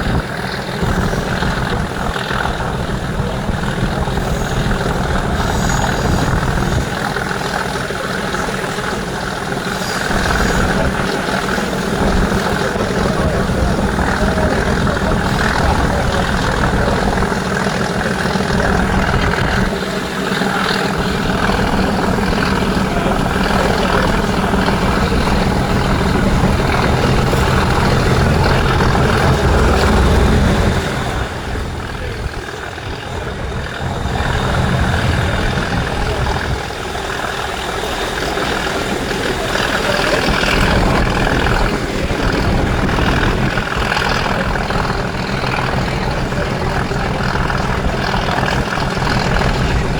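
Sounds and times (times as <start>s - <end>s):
diesel locomotive engine: 0.0s - 49.9s.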